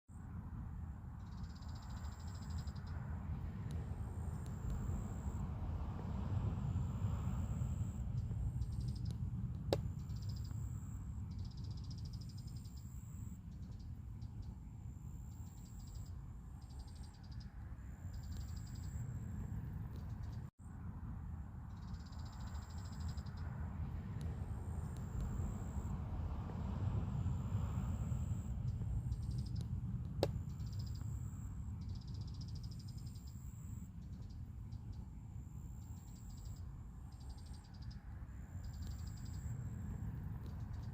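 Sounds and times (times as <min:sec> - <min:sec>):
steady low rumble: 0:00.1 - 0:40.9
insects chirping in trills: 0:01.1 - 0:20.5, 0:21.7 - 0:40.9.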